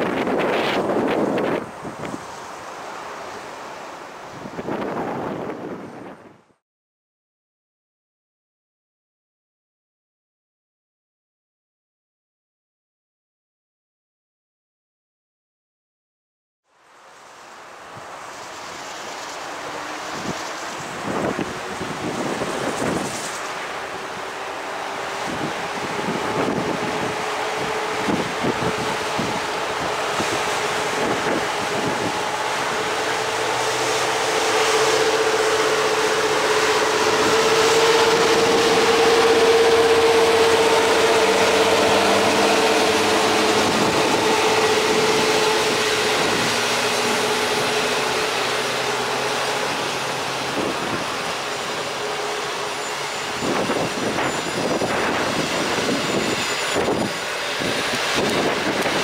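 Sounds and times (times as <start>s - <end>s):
train rushing past: 0.0s - 6.5s, 16.8s - 59.0s.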